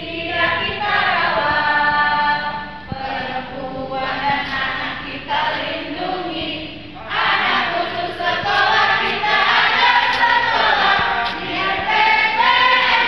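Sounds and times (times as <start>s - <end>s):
group singing a cheer song: 0.0s - 13.0s.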